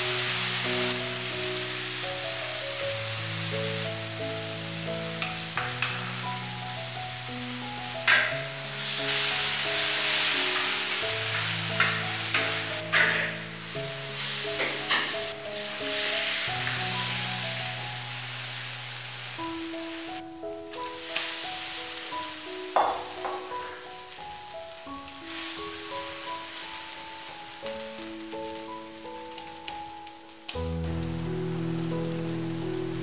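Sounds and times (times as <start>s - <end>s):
oil sizzling in a wok: 0.0s - 33.0s
soft background music: 0.0s - 33.0s.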